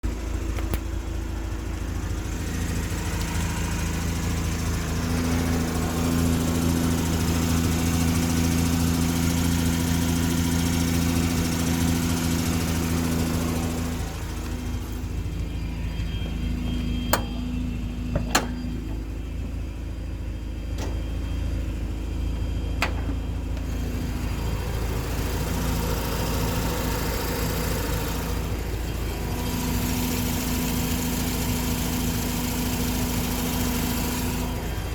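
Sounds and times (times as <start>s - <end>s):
engine ticking: 0.0s - 34.9s
rotary engine running: 0.1s - 19.8s, 23.6s - 34.9s.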